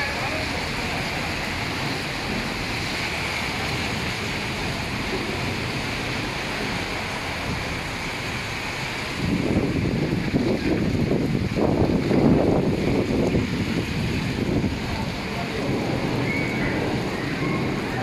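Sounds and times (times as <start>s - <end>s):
heavy rain on wet pavement: 0.0s - 18.0s
wind buffeting microphone: 0.0s - 18.0s.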